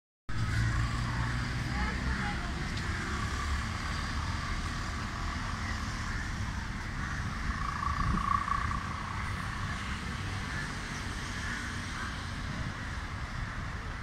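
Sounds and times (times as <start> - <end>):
vehicle engine passing: 0.3 - 13.0
distant traffic hum: 0.3 - 14.0.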